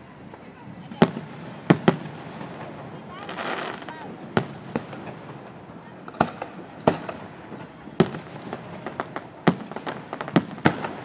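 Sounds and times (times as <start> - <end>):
fireworks bangs: 0.0 - 11.0
small firework pops: 0.2 - 11.0.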